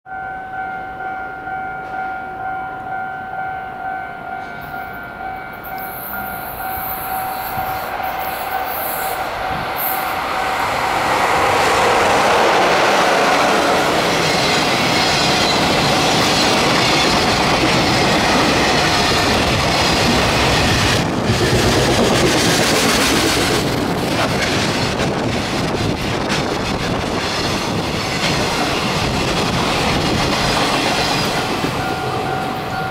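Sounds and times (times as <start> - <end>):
freight train rumbling past: 0.1 - 32.9.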